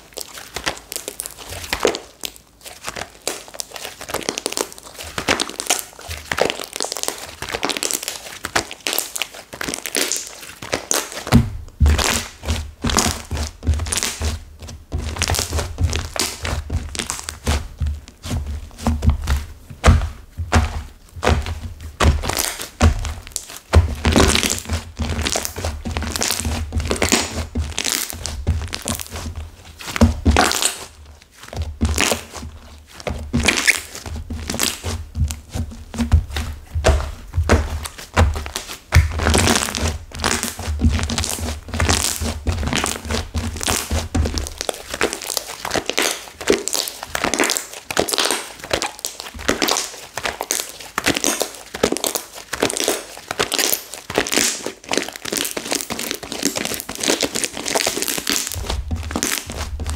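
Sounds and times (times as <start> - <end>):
slime squished by hand: 0.0 - 14.4, 15.0 - 59.9.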